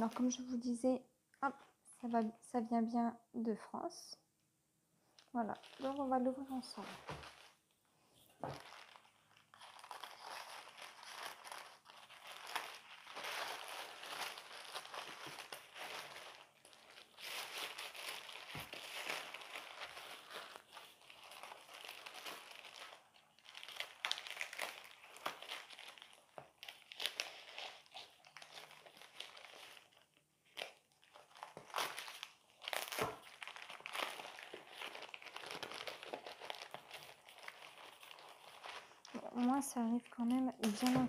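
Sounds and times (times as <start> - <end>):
envelope crinkling and rustling: 5.2 - 41.0.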